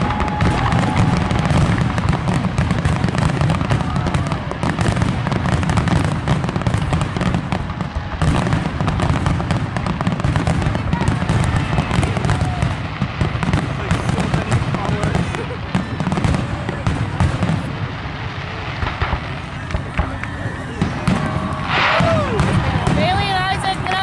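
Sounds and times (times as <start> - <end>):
fireworks booms and bangs: 0.0 - 24.0.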